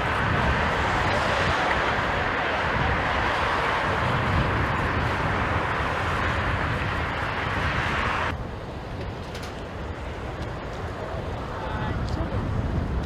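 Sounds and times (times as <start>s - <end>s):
jet airliner engines rushing: 0.0s - 13.0s
steady background noise: 0.0s - 13.0s.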